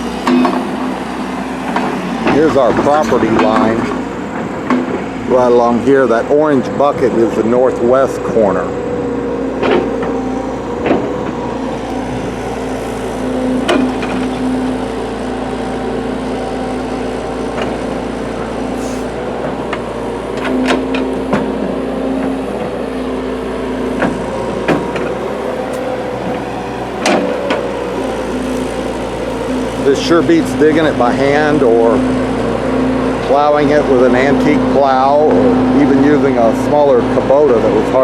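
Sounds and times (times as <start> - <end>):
excavator diesel engine under load: 0.0 - 38.0.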